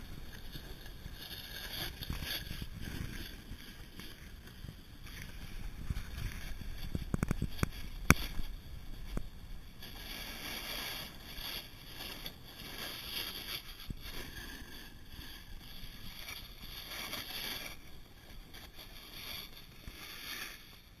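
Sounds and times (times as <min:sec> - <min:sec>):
skis carving over snow: 0:00.0 - 0:21.0.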